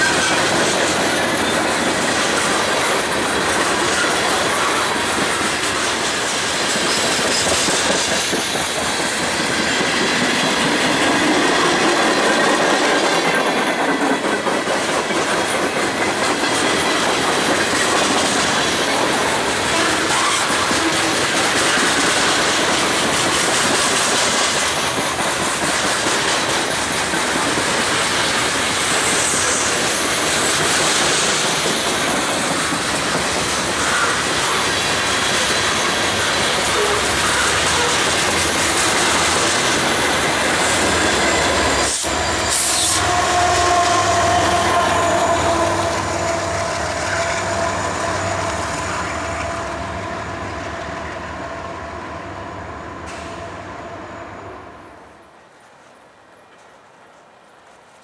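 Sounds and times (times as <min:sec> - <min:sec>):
train wheels clickety-clack: 0:00.0 - 0:49.6.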